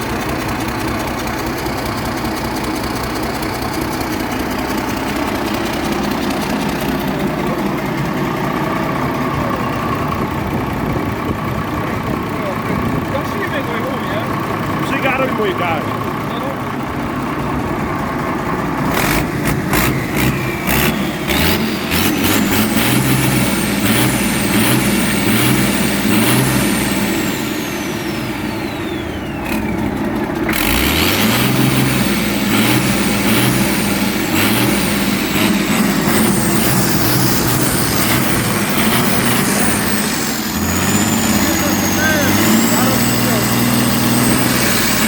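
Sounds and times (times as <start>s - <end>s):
diesel engine revving: 0.0s - 45.0s.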